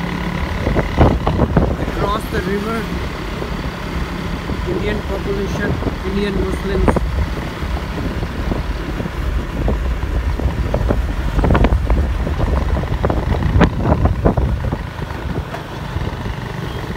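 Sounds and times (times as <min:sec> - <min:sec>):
vehicle driving rumble: 0:00.0 - 0:16.9
wind buffeting microphone: 0:00.3 - 0:16.9.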